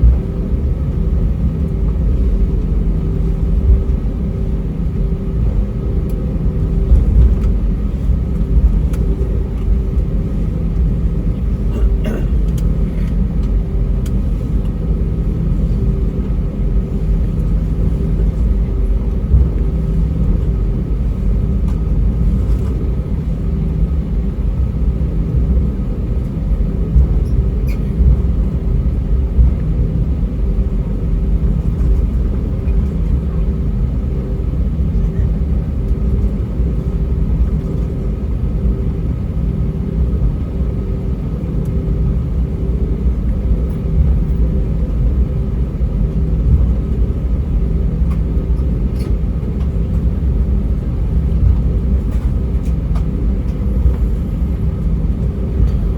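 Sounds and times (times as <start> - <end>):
airliner rolling rumble: 0.0 - 55.9
jet engines idling: 0.0 - 55.9
steady hum: 0.0 - 55.9.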